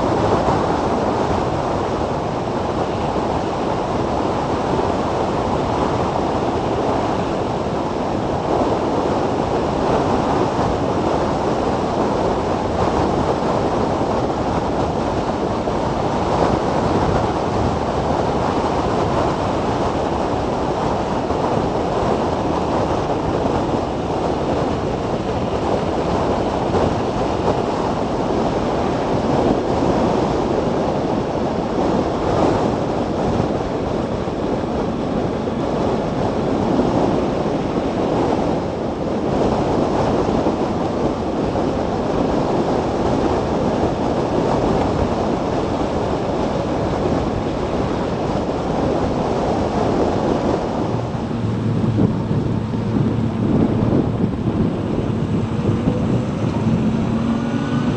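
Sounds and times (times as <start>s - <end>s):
road noise: 0.0s - 57.9s
wind buffeting microphone: 0.0s - 57.9s.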